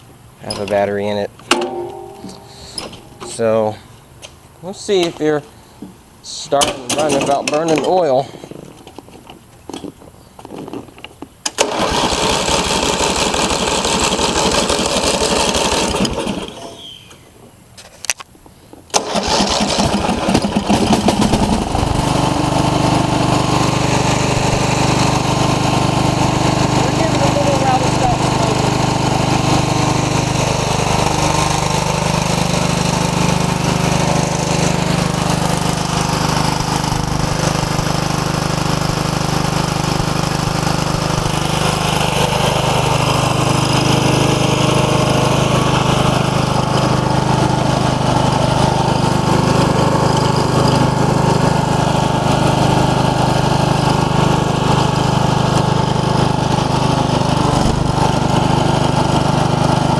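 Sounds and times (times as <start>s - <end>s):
riding mower engine running: 0.0s - 17.0s, 18.9s - 59.9s.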